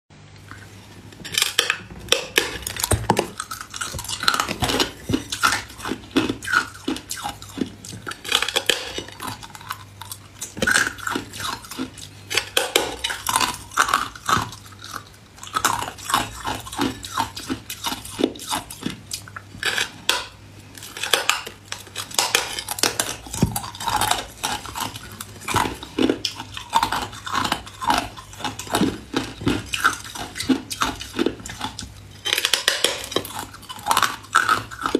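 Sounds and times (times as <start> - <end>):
ice being chewed: 0.4 - 34.9.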